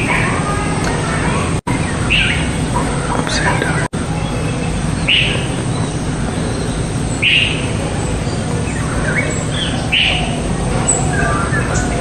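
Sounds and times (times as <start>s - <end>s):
low background noise: 0.0s - 12.0s
small bird calling: 0.0s - 12.0s.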